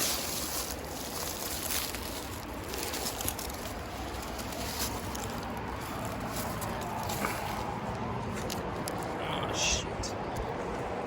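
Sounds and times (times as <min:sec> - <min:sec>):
footsteps among rocks and brush: 0:00.0 - 0:09.2.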